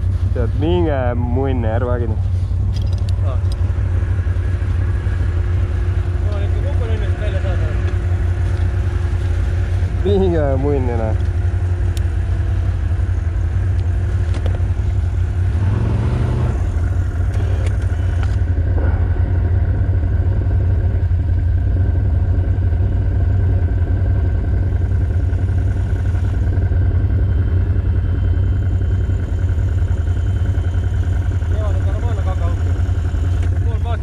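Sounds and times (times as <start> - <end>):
atv engine droning: 0.0 - 34.0.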